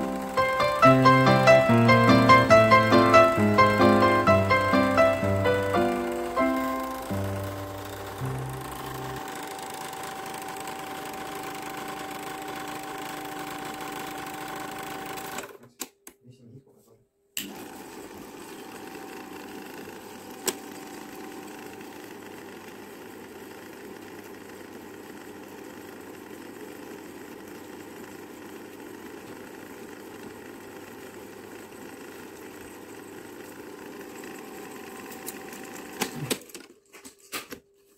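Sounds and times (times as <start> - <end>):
film projector whirring: 0.0 - 15.6, 17.4 - 36.8.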